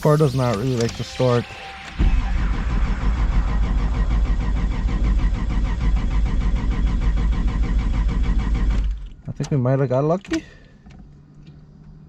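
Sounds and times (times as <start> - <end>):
car starter cranking engine: 0.0 - 12.0.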